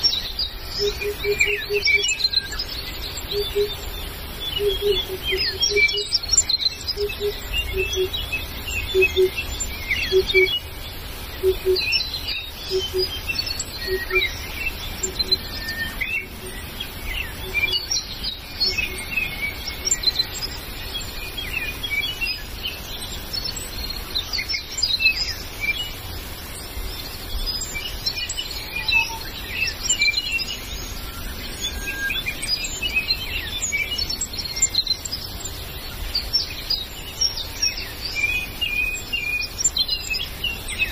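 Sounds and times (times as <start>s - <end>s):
forest birds chirping: 0.0s - 40.9s.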